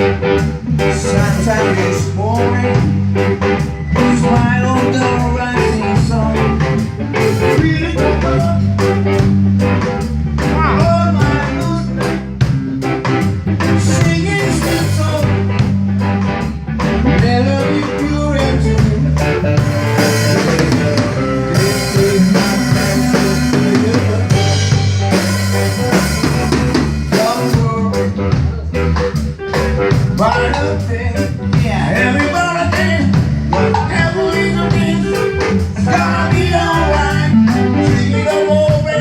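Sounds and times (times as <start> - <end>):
band playing reggae: 0.0 - 39.0
drum rimshots: 0.0 - 39.0.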